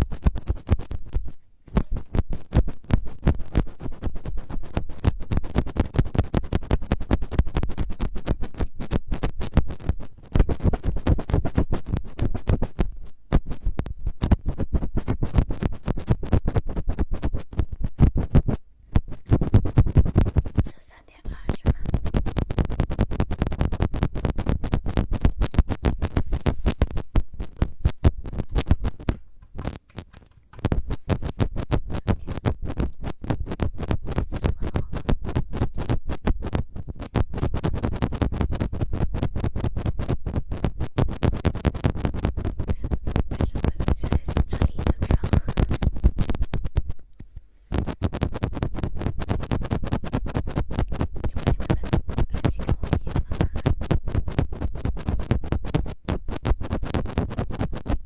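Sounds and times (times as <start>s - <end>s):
scratching on a microphone: 0.0s - 58.0s.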